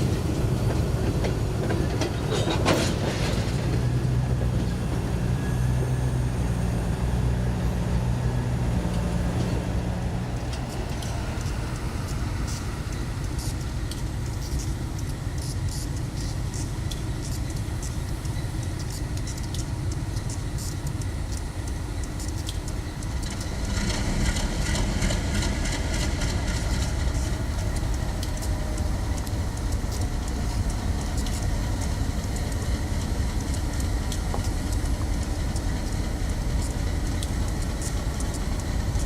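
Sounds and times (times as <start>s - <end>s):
train rumbling: 0.0s - 39.0s
train wheel clicks: 0.0s - 39.0s.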